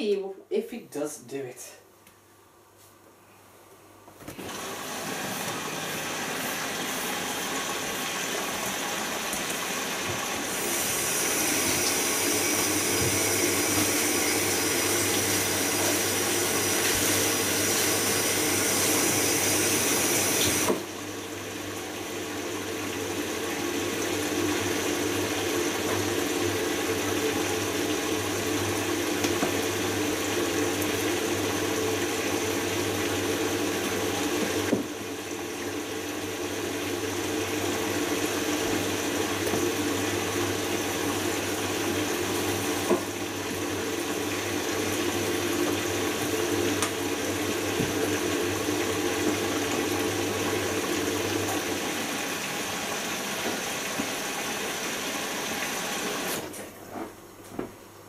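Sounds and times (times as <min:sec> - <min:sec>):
washing machine drawing water: 0:04.1 - 0:58.0.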